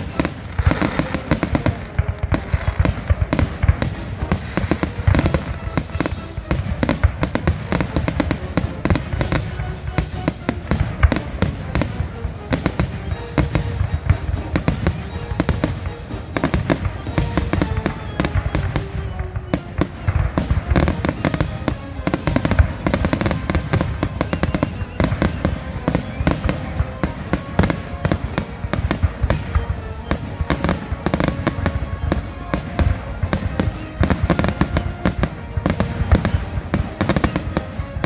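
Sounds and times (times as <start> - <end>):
fireworks cracking and popping: 0.0 - 38.0
music playing: 0.0 - 38.0.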